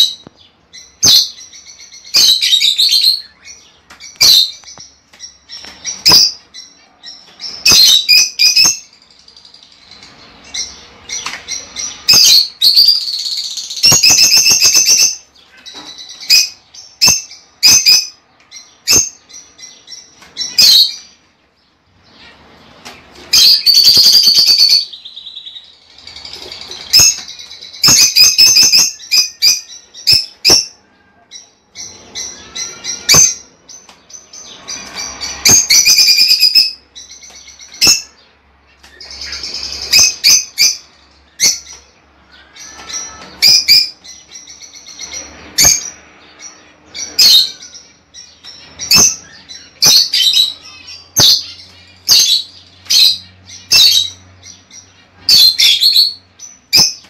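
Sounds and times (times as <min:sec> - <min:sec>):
lovebirds chirping and squawking: 0:00.0 - 0:57.0.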